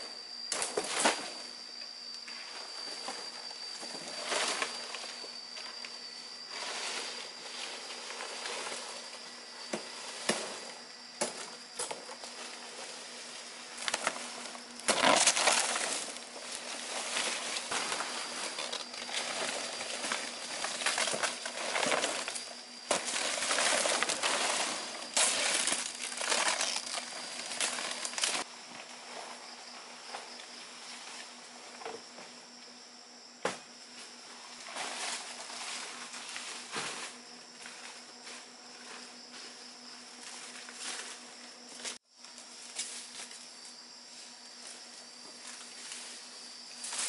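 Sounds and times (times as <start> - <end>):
high insect whine: 0.0 - 47.0
leaves and brush rustling: 2.3 - 31.7, 33.9 - 47.0.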